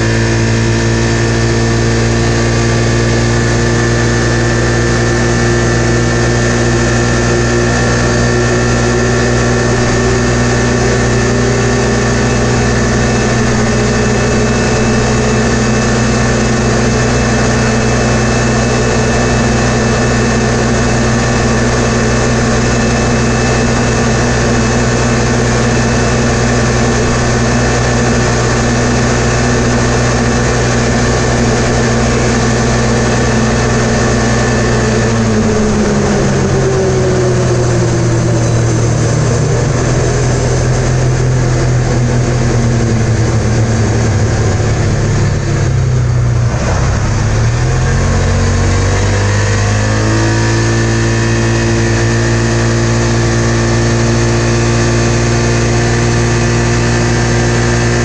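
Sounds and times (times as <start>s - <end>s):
engine revving high: 0.0s - 58.0s.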